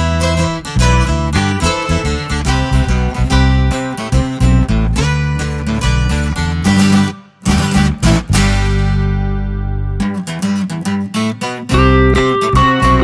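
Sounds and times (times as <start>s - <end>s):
bass line: 0.0s - 11.0s, 11.7s - 13.0s
guitar plucked and strummed: 0.0s - 13.0s.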